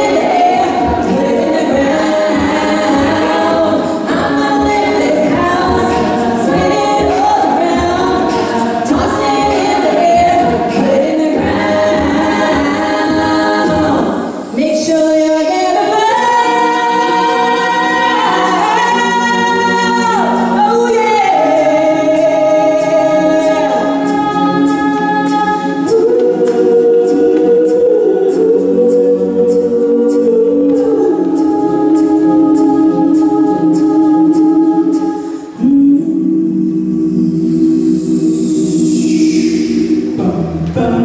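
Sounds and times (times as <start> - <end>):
beatboxed vocal percussion: 0.0 - 41.0
women singing in harmony: 0.0 - 41.0.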